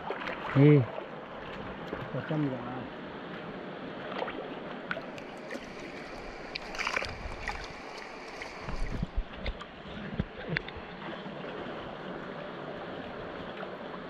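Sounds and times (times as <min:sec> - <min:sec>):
stream water running: 0:00.0 - 0:14.0
water splashing: 0:00.0 - 0:14.0.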